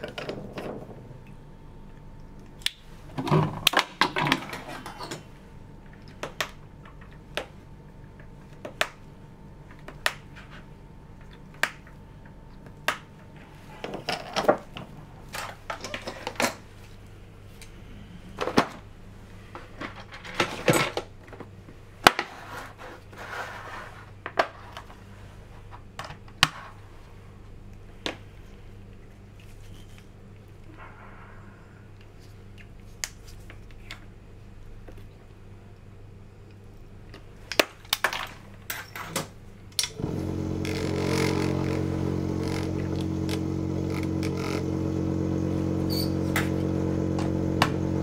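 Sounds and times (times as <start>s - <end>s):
low hum of lab equipment: 0.0s - 48.0s.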